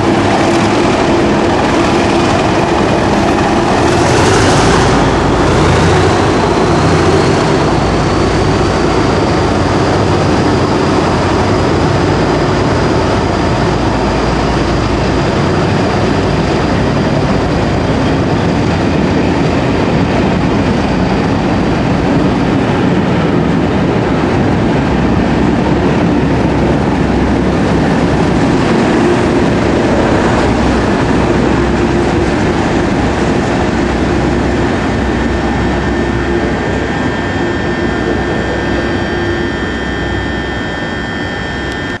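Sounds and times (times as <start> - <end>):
train coaches rolling past: 0.0 - 41.9
diesel locomotive engines working hard: 0.0 - 42.0.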